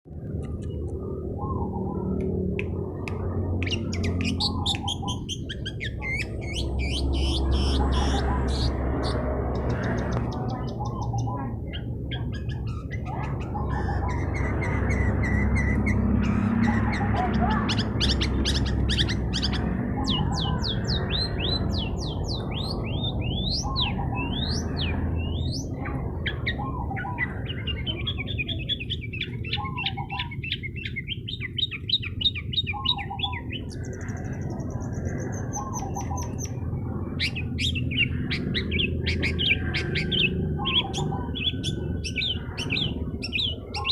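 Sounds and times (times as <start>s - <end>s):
bird singing chattering and whistles: 2.9s - 43.9s.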